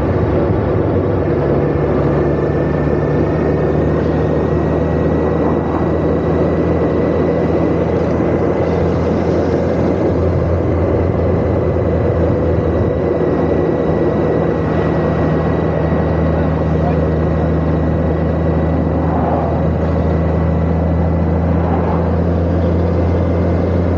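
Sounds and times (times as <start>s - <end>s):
motorcycle engine cruising: 0.0s - 23.9s
wind and road rush: 0.0s - 23.9s.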